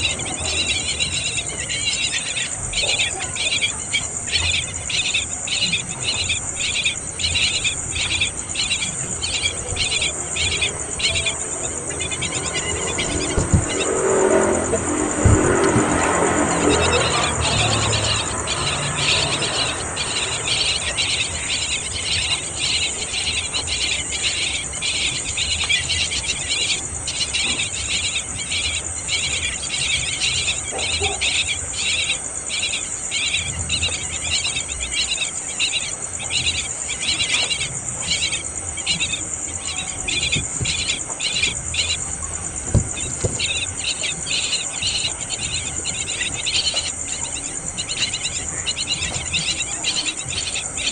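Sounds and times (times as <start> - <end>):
insects trilling: 0.0 - 50.9
pulsing insect chirps: 0.0 - 50.9.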